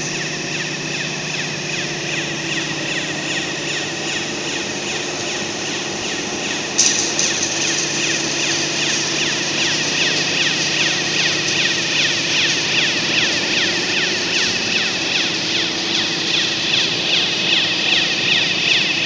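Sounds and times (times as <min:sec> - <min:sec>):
steady machine hum: 0:00.0 - 0:19.0
hiss: 0:02.0 - 0:19.0.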